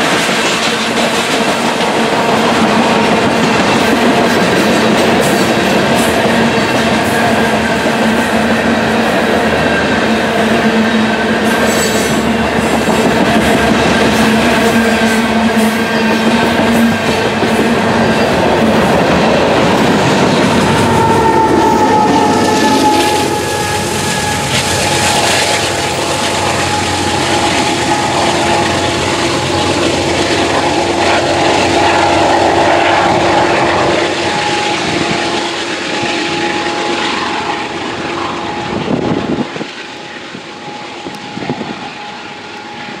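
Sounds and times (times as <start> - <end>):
freight train cars rumbling: 0.0 - 43.0.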